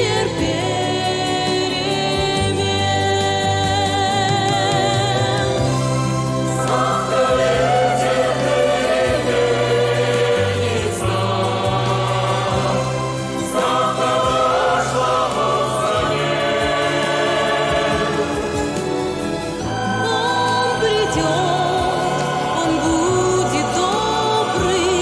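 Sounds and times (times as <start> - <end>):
choir singing sustained notes: 0.0 - 25.0
steady bass line: 0.0 - 25.0.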